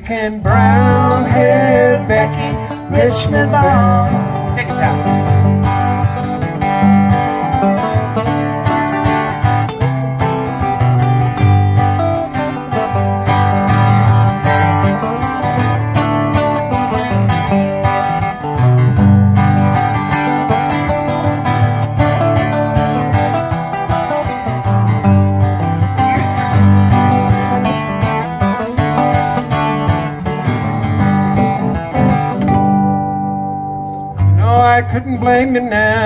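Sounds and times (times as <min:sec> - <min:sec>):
picked guitar melody: 0:00.0 - 0:36.0
strummed acoustic guitar: 0:00.0 - 0:36.0.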